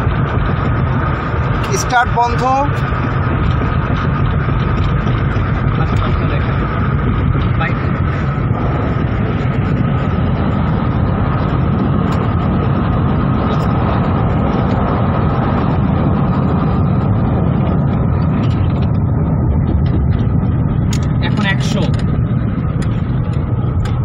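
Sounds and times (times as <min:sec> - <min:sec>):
tyre and wind noise in car: 0:00.0 - 0:24.0.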